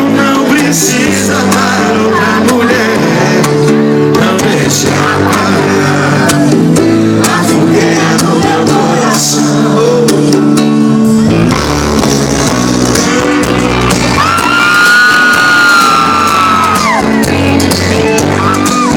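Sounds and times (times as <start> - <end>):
live band through pa: 0.0 - 18.9
sung vocals: 0.0 - 18.9.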